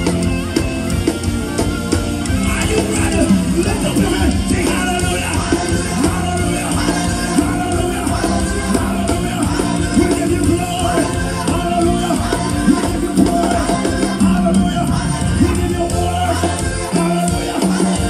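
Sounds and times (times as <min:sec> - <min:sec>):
live rock band playing: 0:00.0 - 0:18.0
lead and backing vocals singing: 0:02.3 - 0:18.0.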